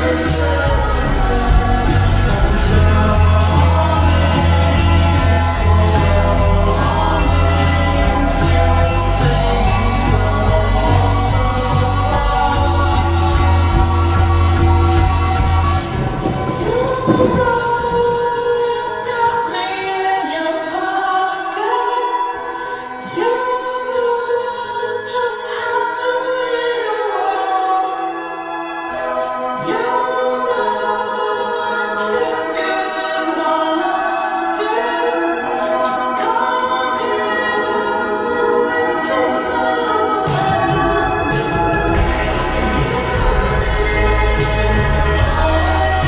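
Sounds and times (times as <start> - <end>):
slowed pop song with vocal harmonies: 0.0 - 46.0.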